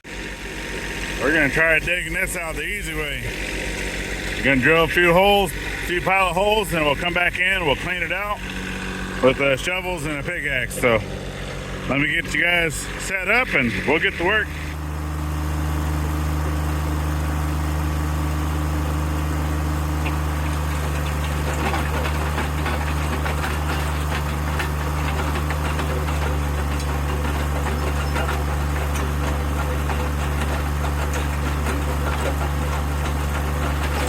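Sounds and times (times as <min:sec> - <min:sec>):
engine running steadily: 0:00.0 - 0:34.0.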